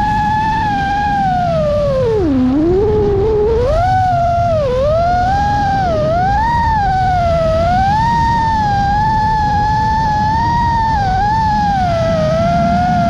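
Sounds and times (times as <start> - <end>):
drone motors whining: 0.0 - 13.0
low rushing noise: 0.0 - 13.0.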